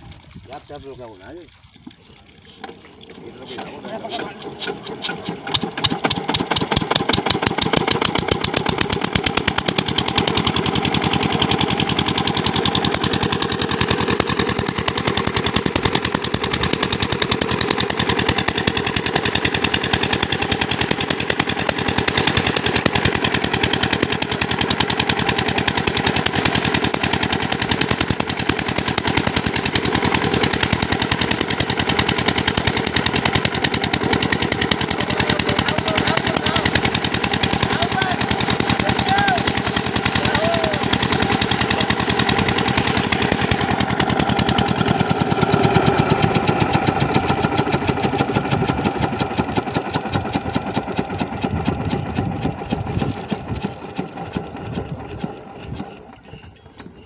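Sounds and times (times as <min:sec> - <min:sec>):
diesel pump engine popping: 0:02.4 - 0:57.0.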